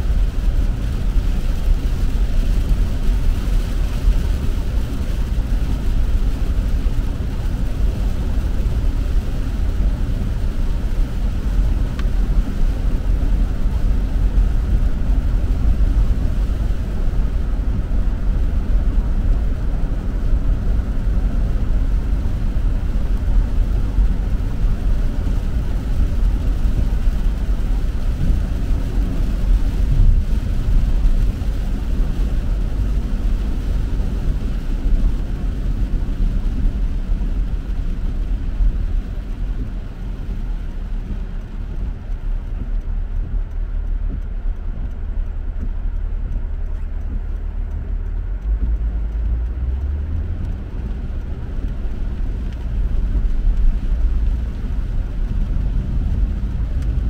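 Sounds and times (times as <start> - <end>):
car driving on wet road: 0.0 - 57.0.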